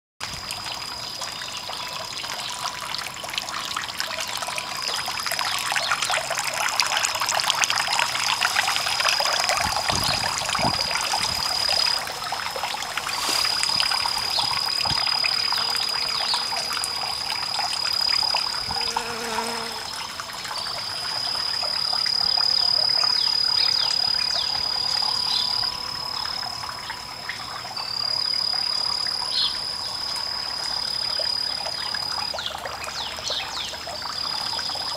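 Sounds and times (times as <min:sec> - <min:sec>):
fountain water trickling: 0:00.2 - 0:34.9
high-pitched insect trill: 0:00.2 - 0:34.9.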